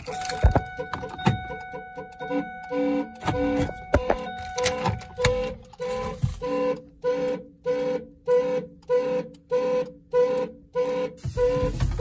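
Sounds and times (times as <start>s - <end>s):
car alarm horn honking: 0.0s - 12.0s.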